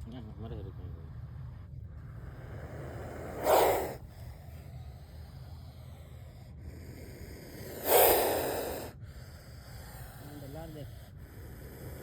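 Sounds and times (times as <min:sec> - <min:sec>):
snake hissing: 0:02.2 - 0:12.0.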